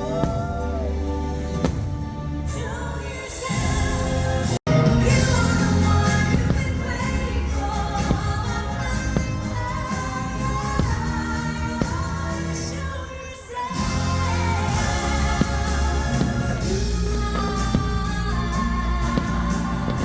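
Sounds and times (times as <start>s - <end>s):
pop music with singing: 0.0s - 20.0s.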